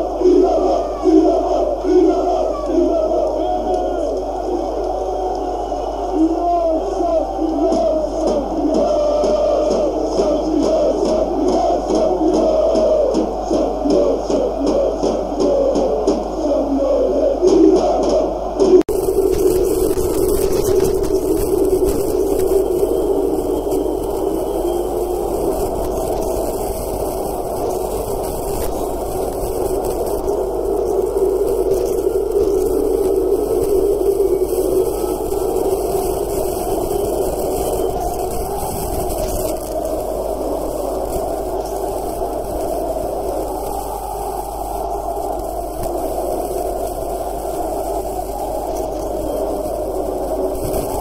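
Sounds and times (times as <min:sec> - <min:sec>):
stadium crowd roar: 0:00.0 - 0:51.0.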